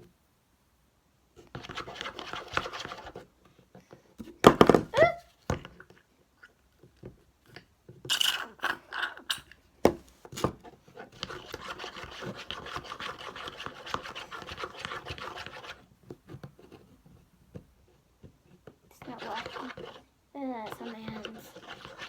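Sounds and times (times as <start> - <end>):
slime stirred and scraped in bowl: 1.3 - 3.7, 4.9 - 22.0.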